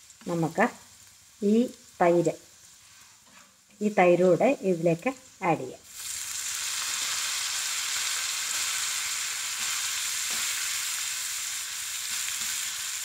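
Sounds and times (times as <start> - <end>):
yogurt sizzling in hot oil: 0.0 - 13.0.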